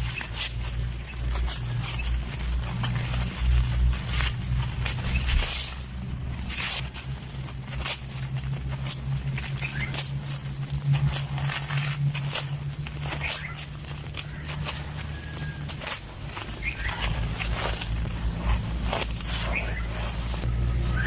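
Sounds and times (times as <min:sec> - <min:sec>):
cement chunks crunching: 0:00.0 - 0:21.0
low steady hum: 0:00.0 - 0:21.0.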